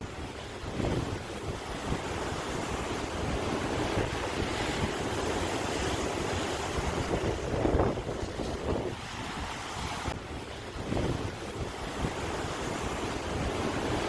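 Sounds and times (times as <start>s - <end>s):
sea waves breaking: 0.0s - 14.0s.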